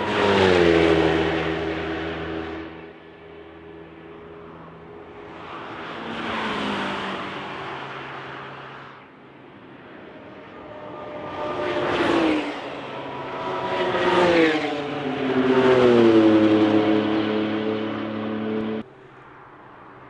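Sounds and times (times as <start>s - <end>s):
cars passing at speed: 0.0s - 20.0s.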